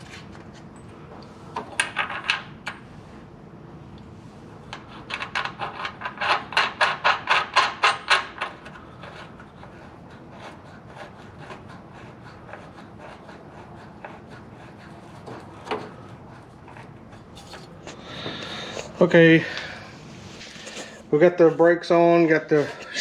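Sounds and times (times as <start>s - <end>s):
sharp scraping strokes: 4.2s - 23.0s.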